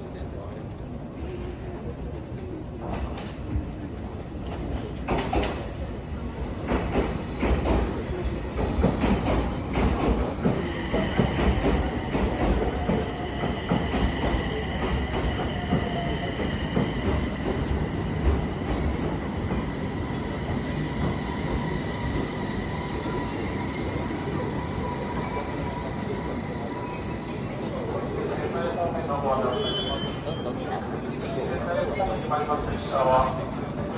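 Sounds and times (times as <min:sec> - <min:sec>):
train wheels rumbling on rails: 0:00.1 - 0:29.5.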